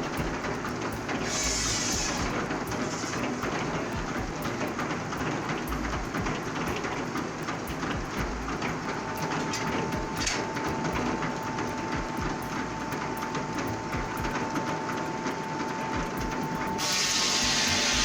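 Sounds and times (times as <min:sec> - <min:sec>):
sawmill machinery clattering: 0:00.0 - 0:18.0
steady high tone: 0:01.2 - 0:18.0.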